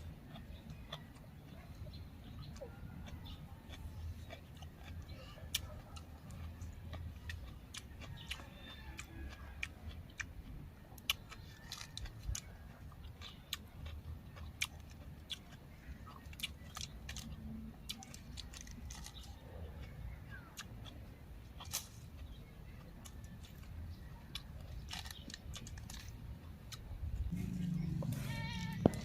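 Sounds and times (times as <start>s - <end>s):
person crunching raw vegetables: 0.3s - 29.0s.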